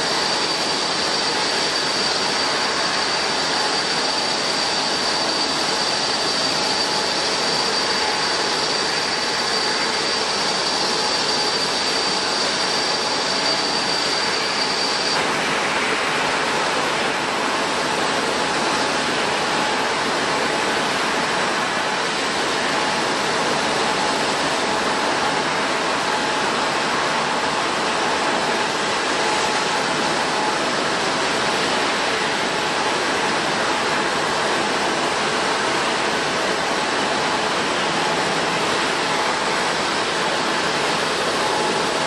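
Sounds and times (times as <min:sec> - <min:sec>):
high steady whine: 0:00.0 - 0:42.0
jet engines running: 0:00.0 - 0:42.0.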